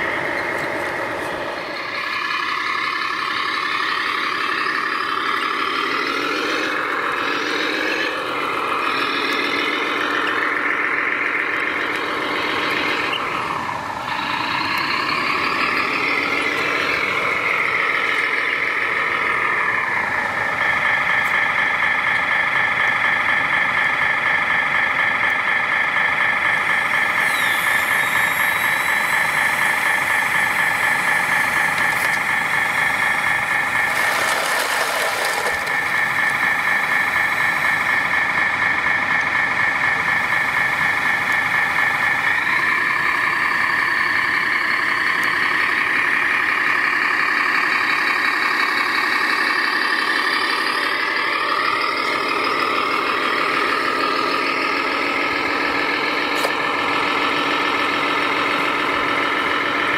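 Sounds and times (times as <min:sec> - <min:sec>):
rc truck motor drone: 0:00.0 - 0:59.9.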